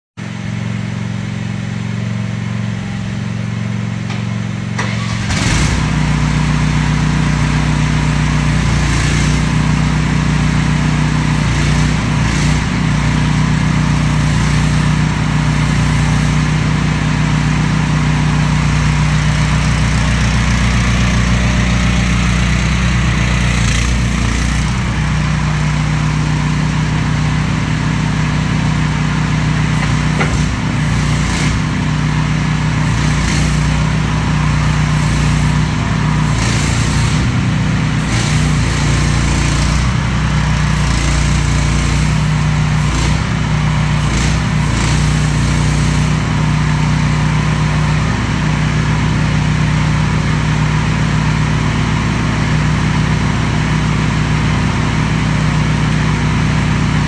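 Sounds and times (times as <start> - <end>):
excavator engine and hydraulics: 0.2 - 57.0.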